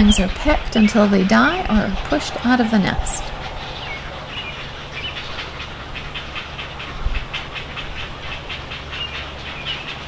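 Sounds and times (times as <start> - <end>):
steady low hum: 0.0 - 9.5
heron chicks clicking calls: 0.0 - 10.0.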